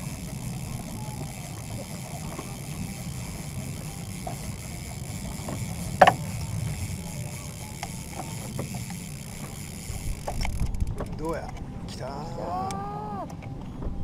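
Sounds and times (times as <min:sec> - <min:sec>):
water rippling around a boat: 0:00.0 - 0:12.1, 0:12.7 - 0:14.0
low wind: 0:00.0 - 0:14.0.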